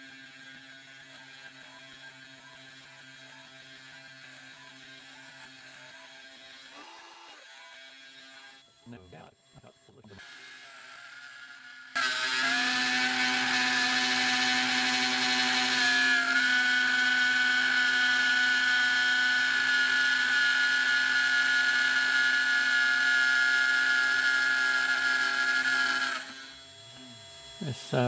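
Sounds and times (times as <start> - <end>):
milling spindle motor whining: 0.0 - 28.0.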